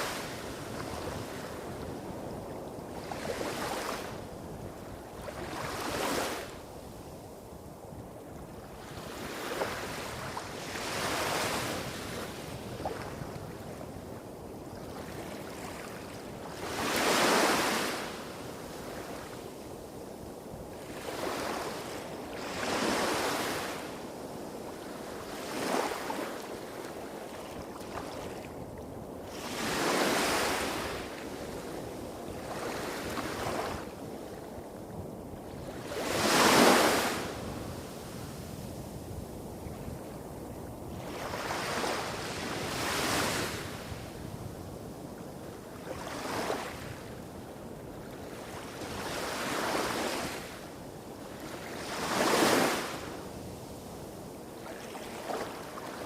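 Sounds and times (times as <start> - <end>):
small waves washing up beach: 0.0 - 56.0.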